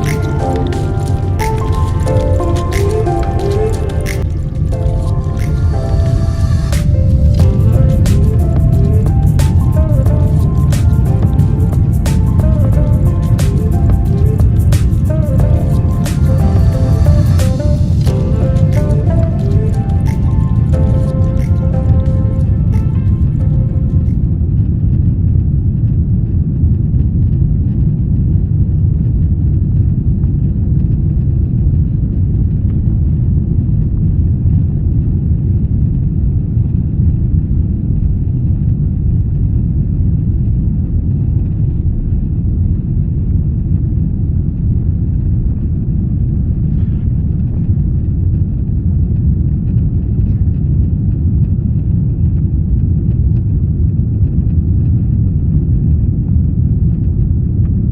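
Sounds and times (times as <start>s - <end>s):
jet engines and airflow rumble: 0.0s - 57.9s.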